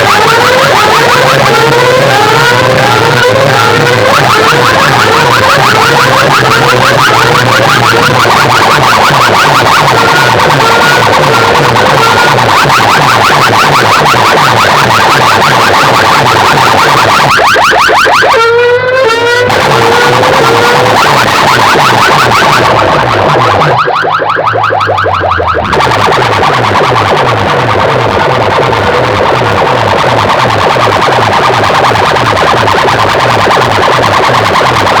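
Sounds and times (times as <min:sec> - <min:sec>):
distorted electronic music: 0:00.0 - 0:35.0
pulsing bass: 0:00.0 - 0:35.0
siren-like rising sweeps: 0:00.0 - 0:35.0.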